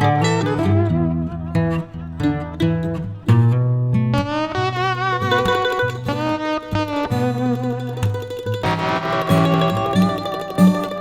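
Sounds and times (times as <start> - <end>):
plucked-string instrumental music: 0.0 - 11.0.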